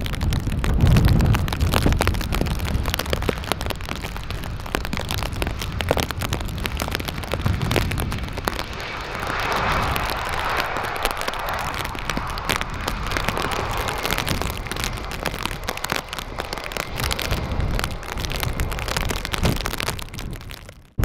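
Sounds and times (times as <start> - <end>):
low wind rumble: 0.0 - 21.0
rain pattering on microphone: 0.0 - 21.0.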